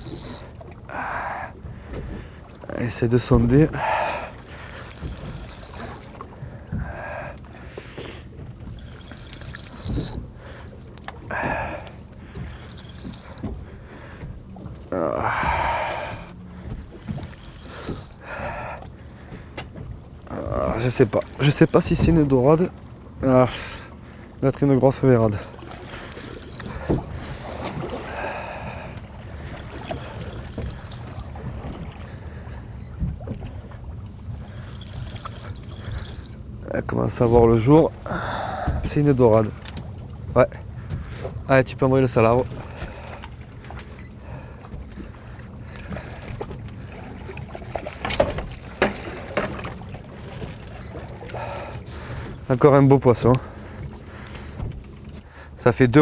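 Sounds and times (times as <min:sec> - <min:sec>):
water slapping boat hull: 0:00.0 - 0:56.0.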